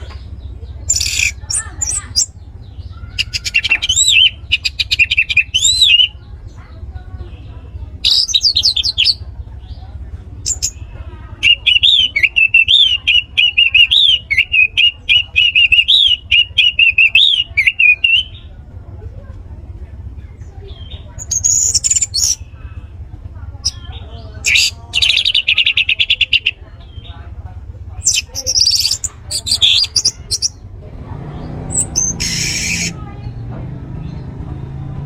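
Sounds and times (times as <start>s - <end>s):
thrush singing: 0.0s - 18.9s, 19.6s - 35.0s.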